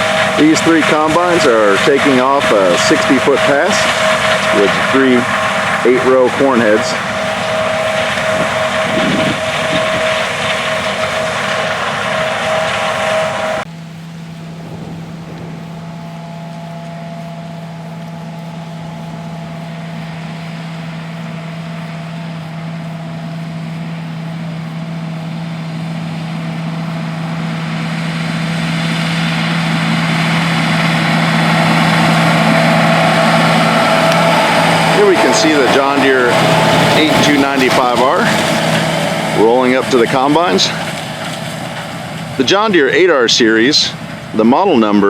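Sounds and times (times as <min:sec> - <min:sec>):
diesel machinery engine drone: 0:00.0 - 0:45.0.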